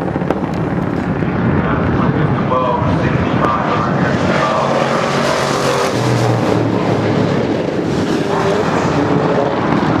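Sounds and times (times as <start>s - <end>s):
car engine running loudly: 0.0s - 10.0s.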